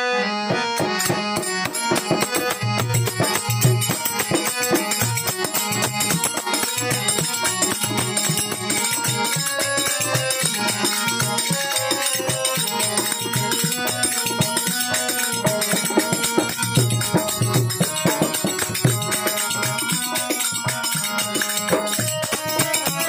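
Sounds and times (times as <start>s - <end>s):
harmonium melody: 0.0s - 23.0s
hand drum beat: 0.5s - 23.0s.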